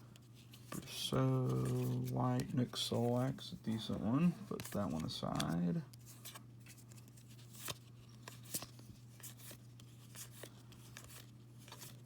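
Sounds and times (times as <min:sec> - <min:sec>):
low steady hum: 0:00.0 - 0:12.0
cards clicking and brushing: 0:00.3 - 0:12.0.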